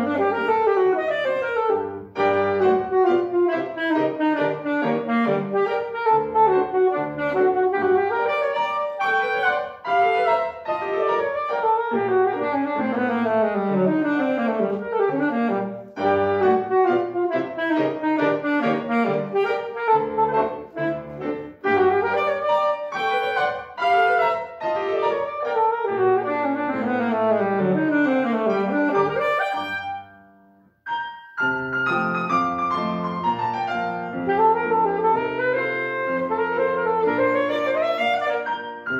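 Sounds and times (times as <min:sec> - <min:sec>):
saxophone: 0:00.0 - 0:30.2, 0:32.4 - 0:38.9
grand piano: 0:00.0 - 0:38.9.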